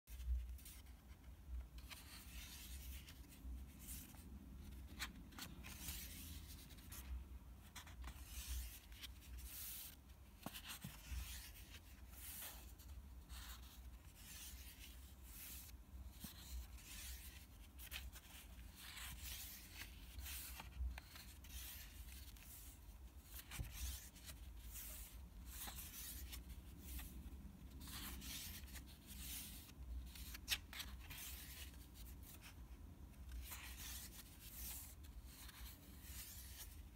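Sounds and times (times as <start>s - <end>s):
paper pages rustling: 0.1s - 32.6s.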